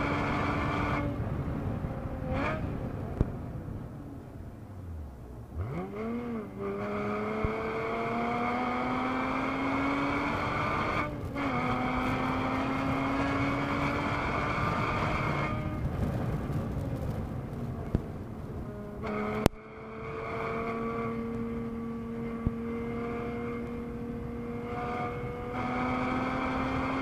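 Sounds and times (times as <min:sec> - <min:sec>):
car engine at full throttle: 0:00.0 - 0:27.0.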